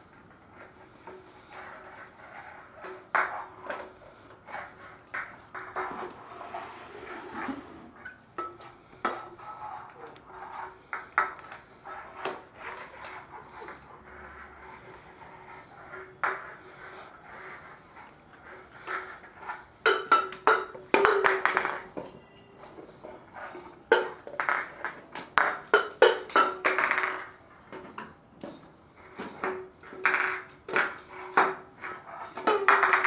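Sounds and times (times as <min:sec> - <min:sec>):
can clattering and scraping on floor: 0:00.6 - 0:22.3, 0:23.0 - 0:33.0.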